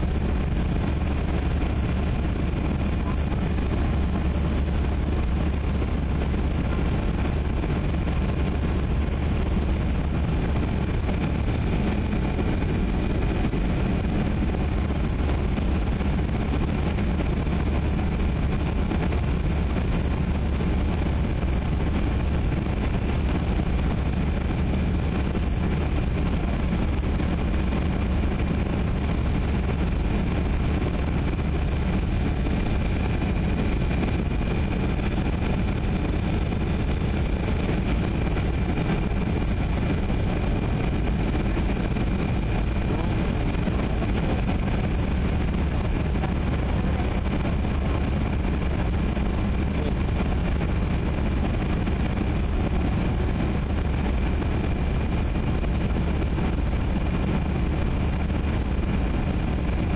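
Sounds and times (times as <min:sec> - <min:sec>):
faint high whine: 0:00.0 - 0:59.9
jet engines with airflow rush: 0:00.0 - 0:59.9.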